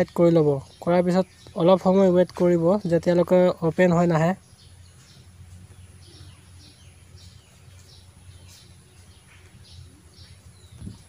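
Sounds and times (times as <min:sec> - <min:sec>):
faint bird chirping: 0:00.0 - 0:11.0
low steady hum: 0:00.0 - 0:11.0.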